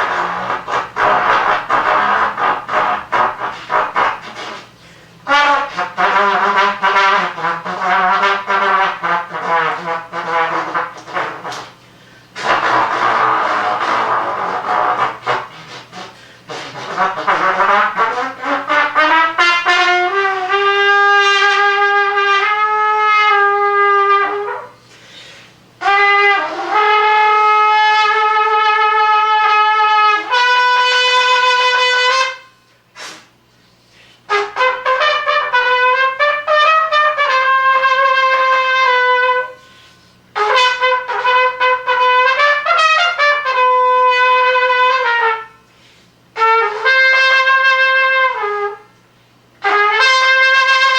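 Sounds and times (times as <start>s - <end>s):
wind instrument playing long notes: 0.0s - 11.8s, 12.4s - 24.8s, 25.8s - 33.2s, 34.3s - 39.8s, 40.4s - 45.6s, 46.4s - 48.9s, 49.6s - 50.9s.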